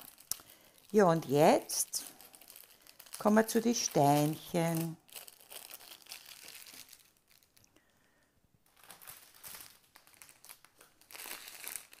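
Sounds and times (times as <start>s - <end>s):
plastic packaging crinkling: 0.0s - 7.9s, 8.6s - 12.0s.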